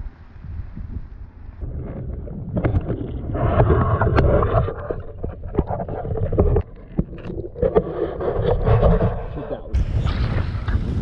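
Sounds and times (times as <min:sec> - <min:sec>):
muffled rumbling water: 0:00.0 - 0:11.0.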